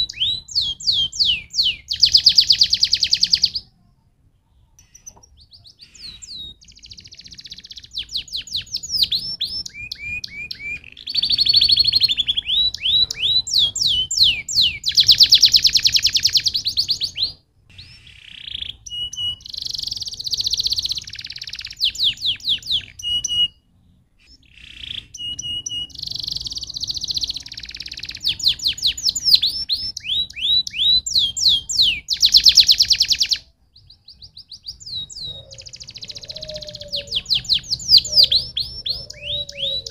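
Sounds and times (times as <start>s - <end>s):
canary singing rapid trills: 0.0s - 3.7s, 4.8s - 23.6s, 24.2s - 39.9s.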